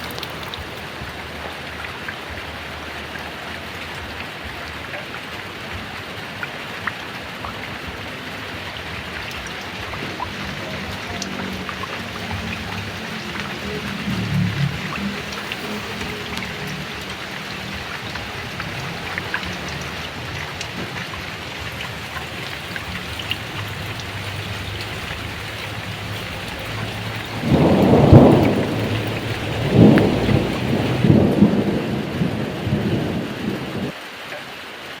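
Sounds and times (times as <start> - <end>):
water dripping: 0.0 - 34.5
heavy rain falling: 0.0 - 35.0
thunder rumbling: 5.2 - 34.0.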